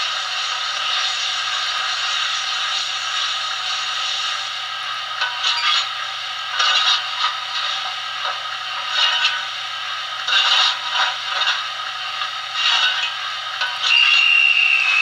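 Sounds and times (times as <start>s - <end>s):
model steam locomotive hissing: 0.0s - 15.0s.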